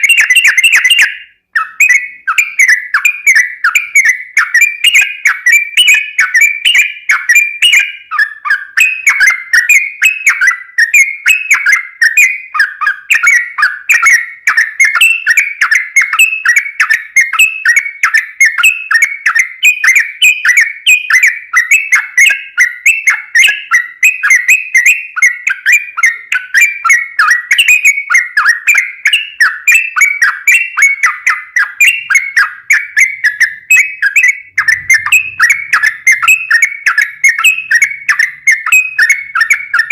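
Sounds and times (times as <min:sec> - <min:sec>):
bird chirping whistled notes: 0:00.0 - 0:39.9.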